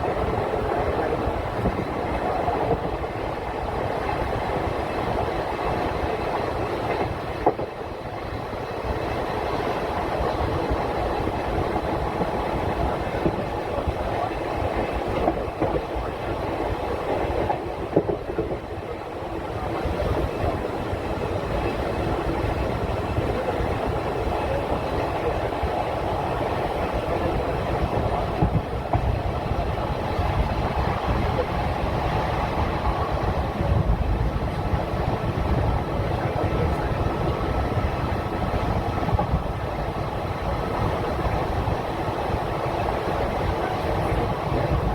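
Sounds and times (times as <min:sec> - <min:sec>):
train wheels rumbling on rails: 0:00.0 - 0:44.9
wheels clacking over rail joints: 0:00.0 - 0:44.9.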